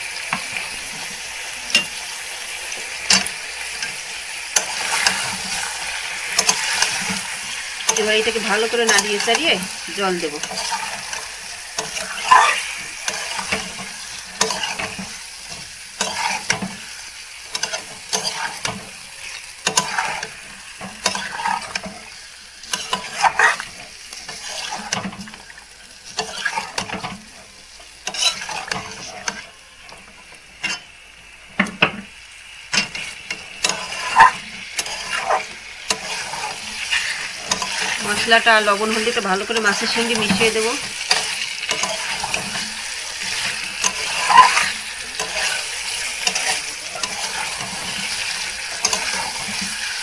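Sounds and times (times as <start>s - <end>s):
spice paste sizzling in oil: 0.0s - 50.0s
metal spatula scraping metal pan: 0.3s - 29.6s, 30.6s - 30.9s, 32.7s - 50.0s.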